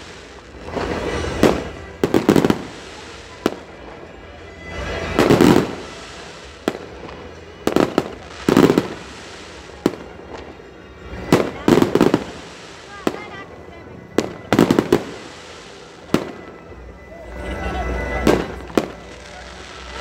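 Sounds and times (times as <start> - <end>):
fireworks bangs: 0.0 - 16.7, 18.1 - 20.0.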